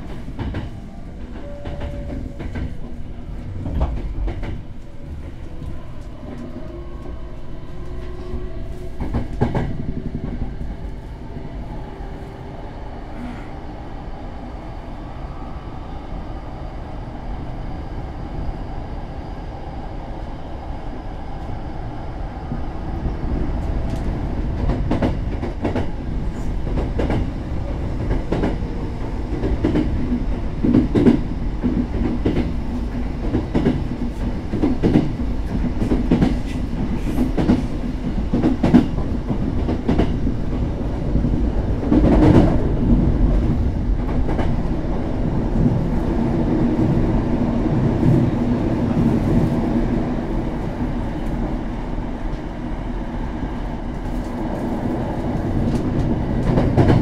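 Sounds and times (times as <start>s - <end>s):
train rumbling inside carriage: 0.0s - 57.0s.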